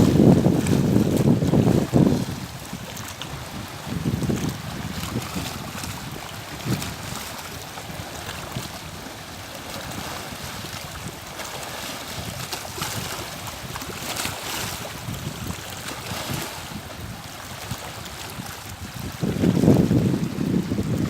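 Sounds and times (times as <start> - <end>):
wind gusting on microphone: 0.0 - 21.0.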